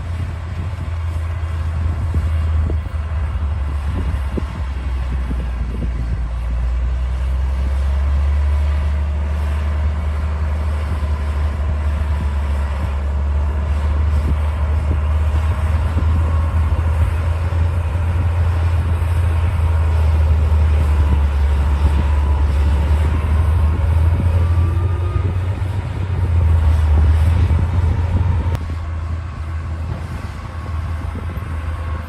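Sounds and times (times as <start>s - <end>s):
bulldozer diesel engine droning: 0.0s - 32.0s.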